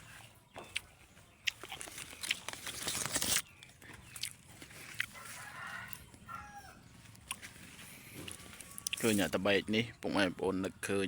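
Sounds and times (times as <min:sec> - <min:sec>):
chickens clucking: 0:00.0 - 0:02.5, 0:03.4 - 0:11.0
rustling crunching noise: 0:00.0 - 0:09.6.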